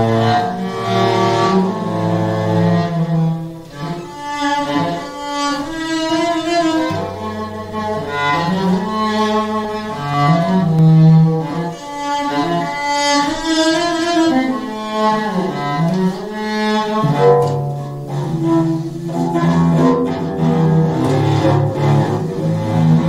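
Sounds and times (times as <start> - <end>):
bowed metal cello: 0.0 - 23.0.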